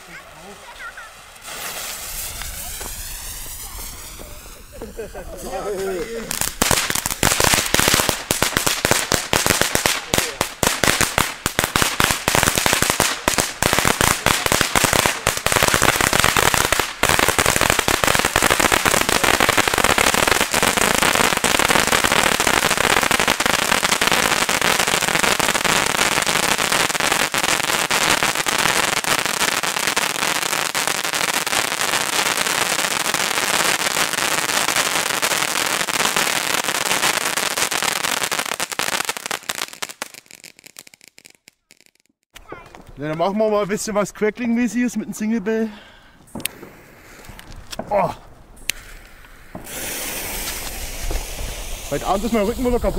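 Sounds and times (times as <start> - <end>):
firework fountain crackling and hissing: 0.0 - 42.9, 46.2 - 52.9.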